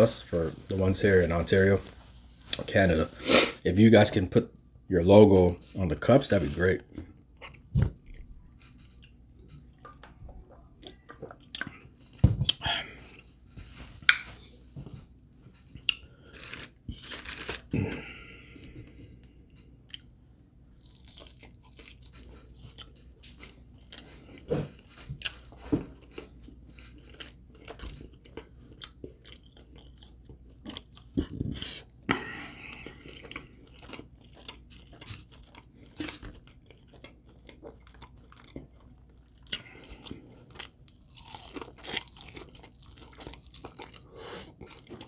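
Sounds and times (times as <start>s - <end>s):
person chewing: 6.9s - 45.0s.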